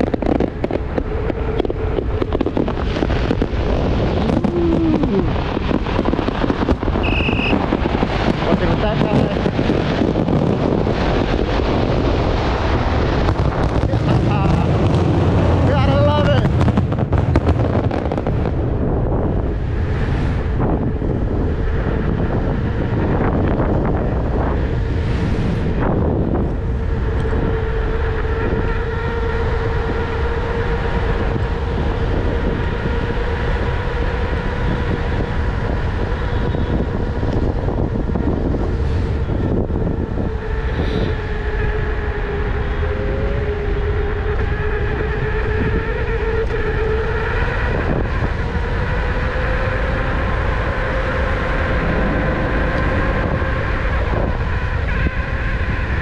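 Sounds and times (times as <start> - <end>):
rushing wind: 0.0 - 56.0
steady motor whine: 0.0 - 56.0.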